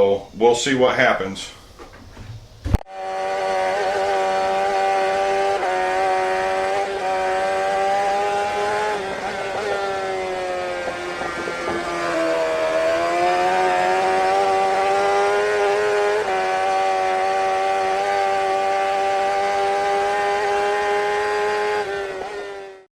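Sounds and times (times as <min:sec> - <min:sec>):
engine running at high revs: 0:02.8 - 0:22.9.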